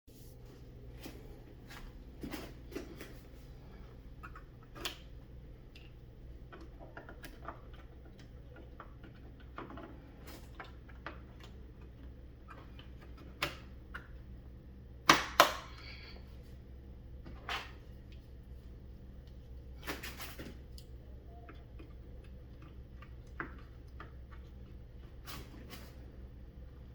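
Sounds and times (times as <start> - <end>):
steady low hum: 0.1 - 26.9.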